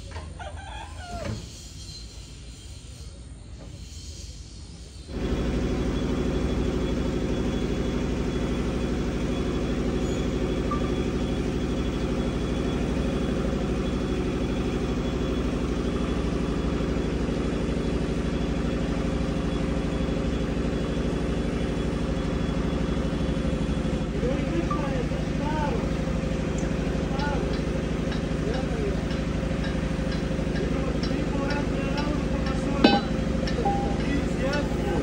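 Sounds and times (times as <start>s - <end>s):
engine idling: 5.1s - 35.0s.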